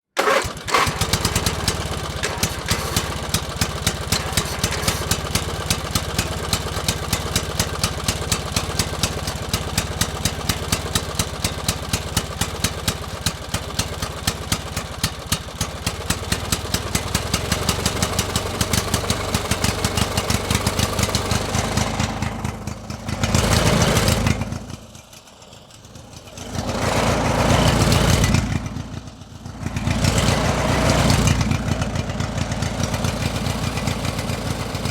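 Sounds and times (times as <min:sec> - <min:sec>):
engine idling and revving: 0:00.2 - 0:34.9.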